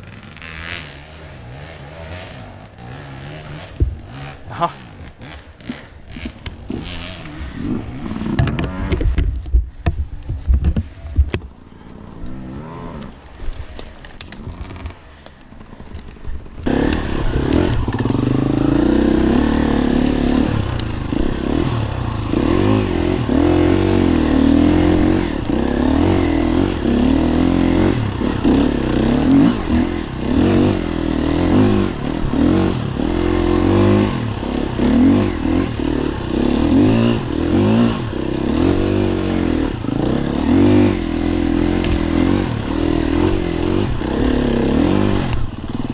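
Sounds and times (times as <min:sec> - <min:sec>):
dirt bike engine revving: 0:00.0 - 0:09.2, 0:16.6 - 0:45.9.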